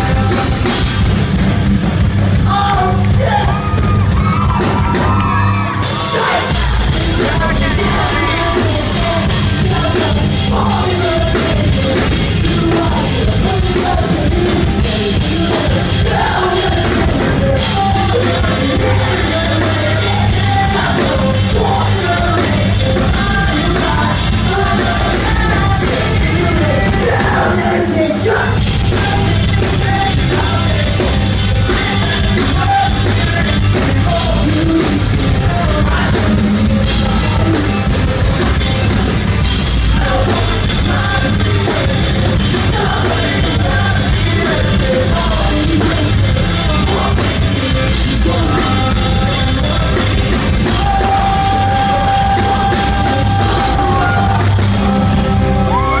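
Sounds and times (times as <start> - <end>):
sung and yelled vocals: 0.0 - 1.4, 2.1 - 56.0
bass guitar: 0.0 - 56.0
drum kit: 0.0 - 56.0
electric guitar: 0.0 - 56.0.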